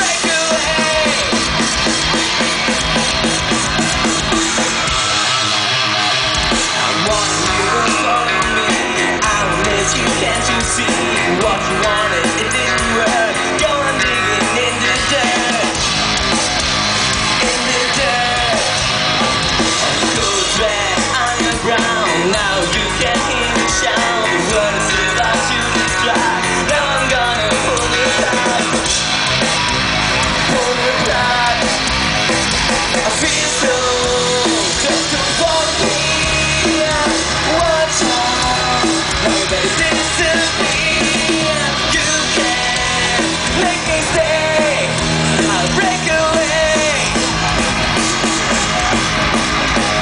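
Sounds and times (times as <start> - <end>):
live rock band: 0.0 - 50.0.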